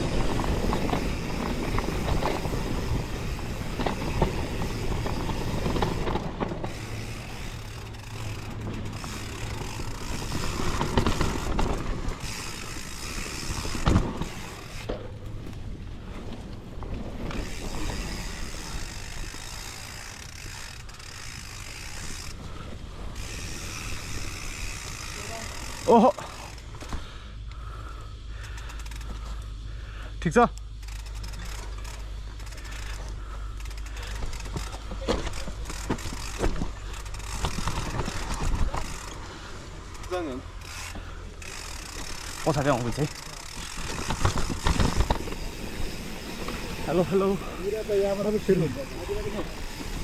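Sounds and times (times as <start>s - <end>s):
bike drivetrain rattling: 0.0s - 50.0s.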